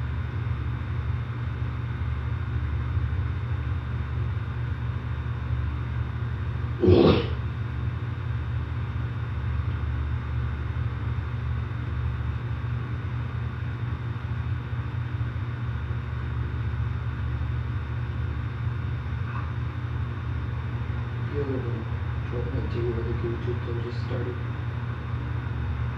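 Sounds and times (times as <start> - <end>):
air conditioner units humming: 0.0 - 25.9.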